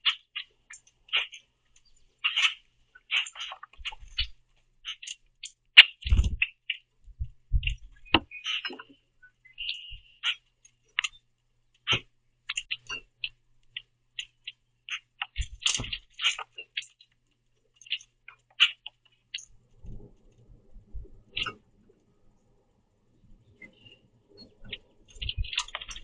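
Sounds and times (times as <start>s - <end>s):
birds clicking and calling: 0.0s - 22.0s, 23.2s - 26.0s.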